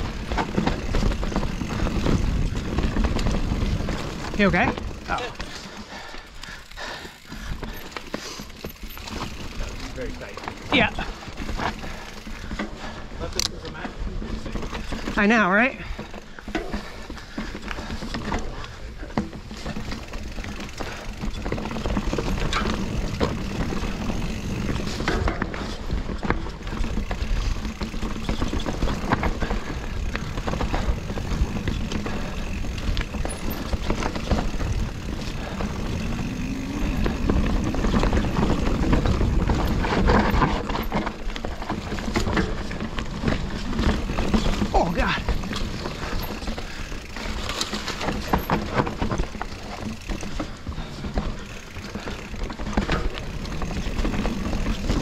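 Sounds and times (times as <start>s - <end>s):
bike rattling and knocking: 0.0s - 55.0s
tyres rumbling on dirt: 0.0s - 55.0s.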